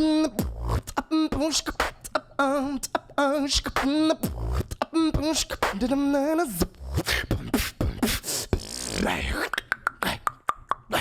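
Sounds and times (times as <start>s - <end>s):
beatboxing mouth hits and clicks: 0.0s - 11.0s.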